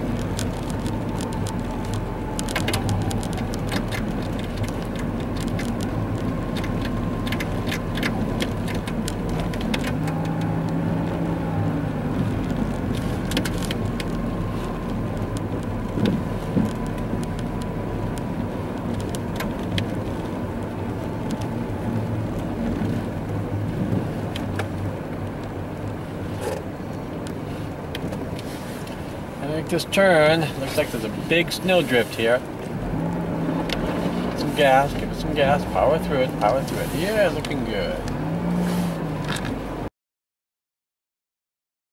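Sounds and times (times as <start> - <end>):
car engine and tyre hum: 0.0 - 39.9.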